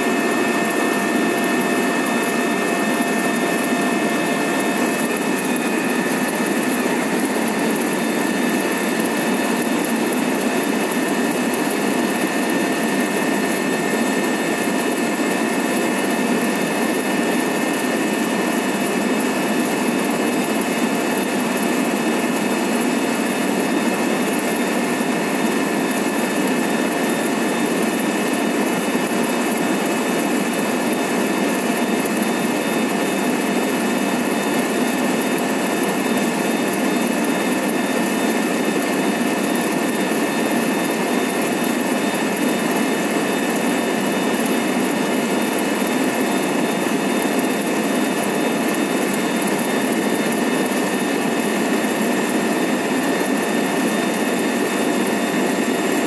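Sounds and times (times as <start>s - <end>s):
helicopter cabin noise: 0.0s - 56.0s.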